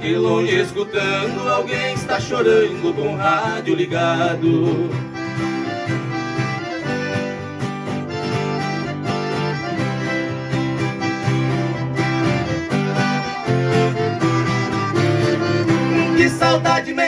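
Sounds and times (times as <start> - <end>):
plucked strings playing melody: 0.0 - 17.0.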